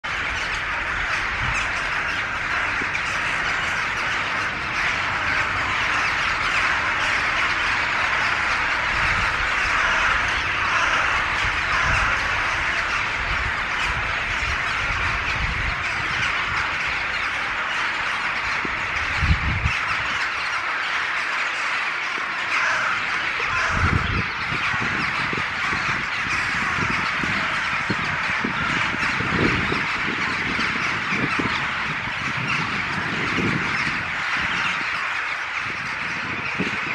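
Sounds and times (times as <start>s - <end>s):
flock of rooks cawing: 0.0s - 36.9s.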